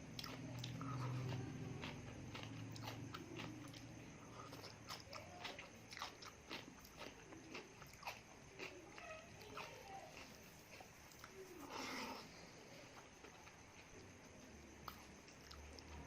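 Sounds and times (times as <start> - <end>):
chewing food: 0.0 - 16.0.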